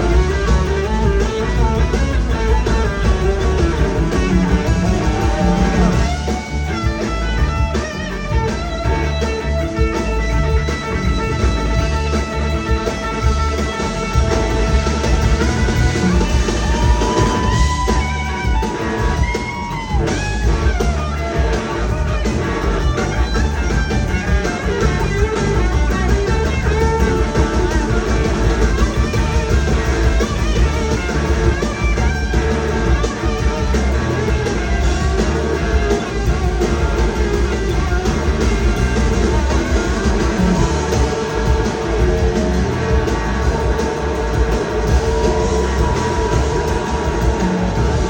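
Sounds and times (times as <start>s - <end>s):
electric guitar: 0.0s - 48.0s
rock band playing: 0.0s - 48.0s.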